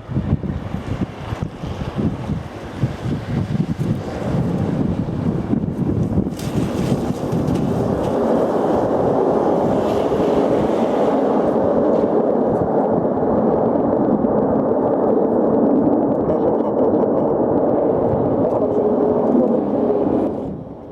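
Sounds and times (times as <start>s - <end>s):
airplane engines rumbling: 0.0s - 20.9s.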